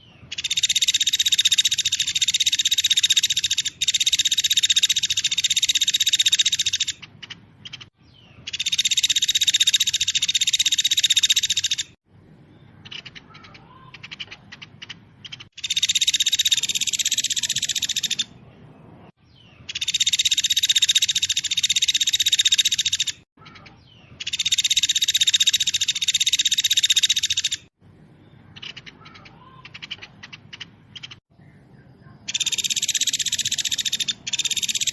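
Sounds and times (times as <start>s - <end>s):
songbird singing fast song: 0.0s - 34.9s.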